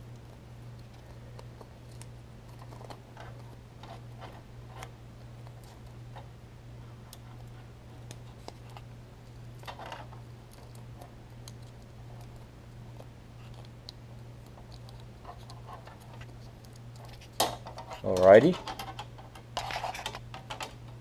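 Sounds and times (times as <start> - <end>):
tape crinkling and clicking: 0.0 - 6.3, 7.0 - 21.0
steady low hum: 0.0 - 21.0.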